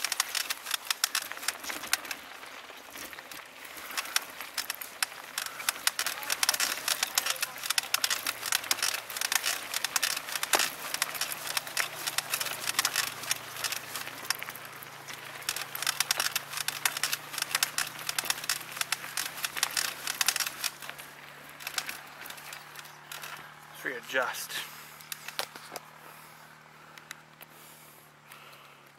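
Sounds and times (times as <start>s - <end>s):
bike rattling over bumps: 0.0s - 28.9s
bike tyres crackling on dirt: 0.0s - 28.9s.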